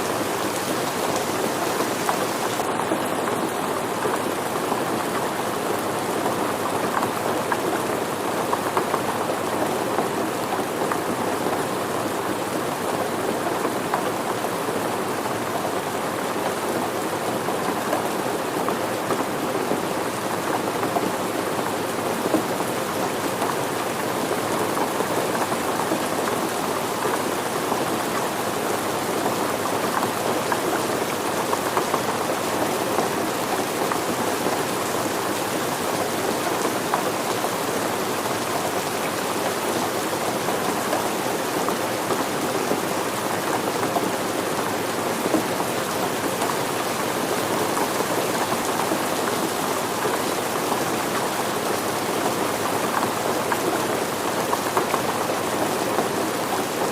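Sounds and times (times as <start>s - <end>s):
rain pattering on surfaces: 0.0s - 56.9s.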